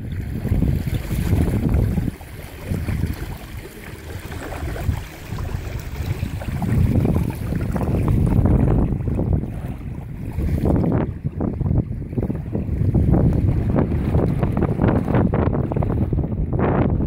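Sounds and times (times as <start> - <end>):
small waves lapping: 0.0 - 16.2
wind buffeting microphone: 0.0 - 17.0.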